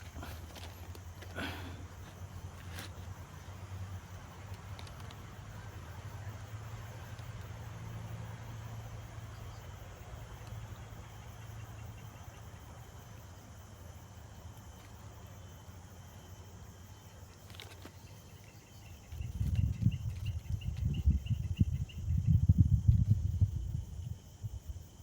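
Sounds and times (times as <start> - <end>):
insect chirping rapidly: 0.0 - 25.0.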